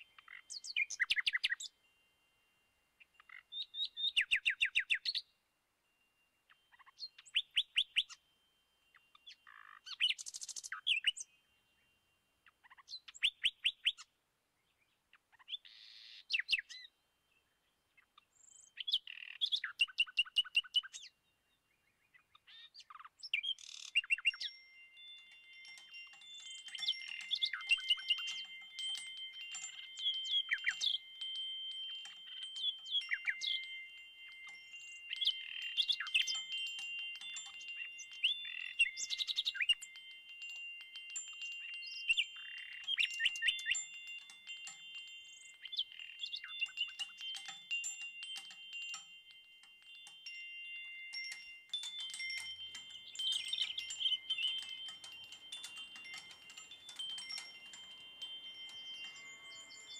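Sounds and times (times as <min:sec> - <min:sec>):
bird chirps: 0:00.0 - 0:01.9, 0:03.0 - 0:59.9
wind chimes ringing: 0:00.0 - 0:14.1, 0:15.4 - 0:21.4, 0:22.3 - 0:59.9.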